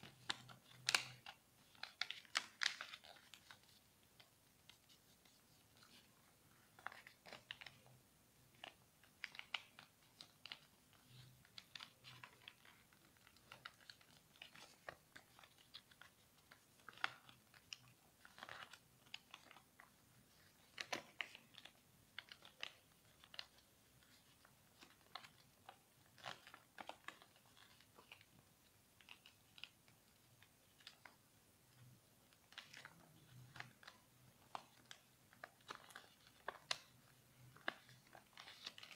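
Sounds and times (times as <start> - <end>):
paper being folded and creased: 0.0 - 38.9.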